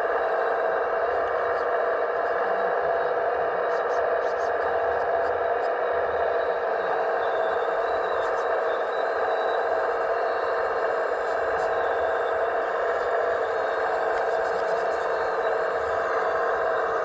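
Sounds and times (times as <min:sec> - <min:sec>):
model motor and pump whine: 0:00.0 - 0:17.0.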